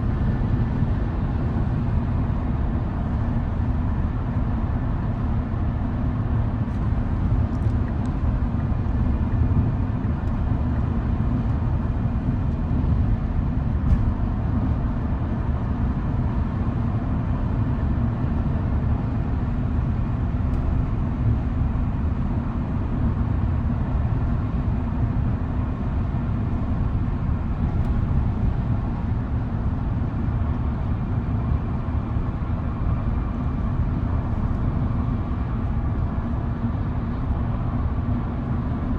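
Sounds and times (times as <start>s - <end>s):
road and wind noise in cab: 0.0s - 38.9s.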